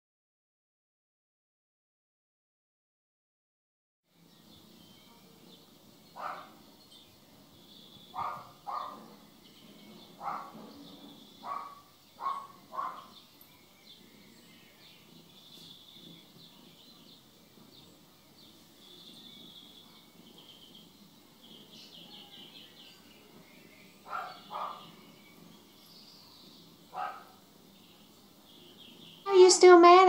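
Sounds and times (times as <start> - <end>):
faint bird twittering: 4.2 - 29.7.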